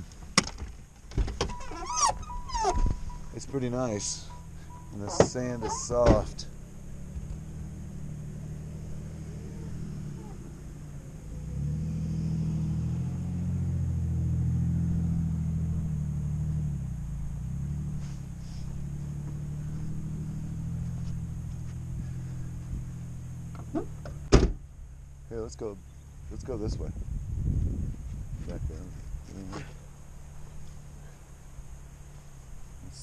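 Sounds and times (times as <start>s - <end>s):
engine running low: 0.0s - 33.0s.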